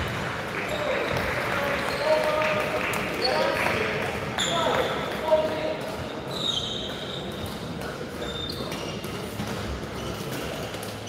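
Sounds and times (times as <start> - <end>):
court shoes squeaking on floor: 0.0 - 11.0
indoor sports hall ambience: 0.0 - 11.0.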